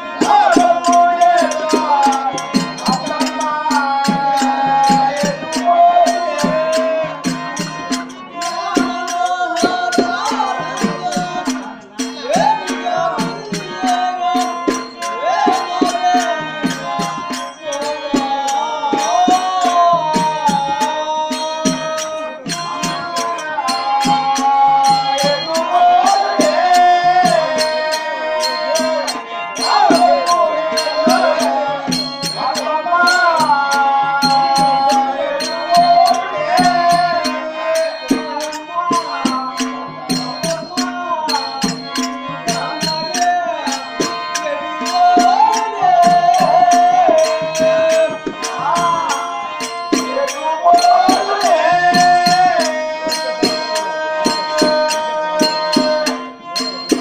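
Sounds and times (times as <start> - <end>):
held accompanying notes: 0.0 - 57.0
person singing: 0.0 - 57.0
tabla and percussion strokes: 0.0 - 57.0.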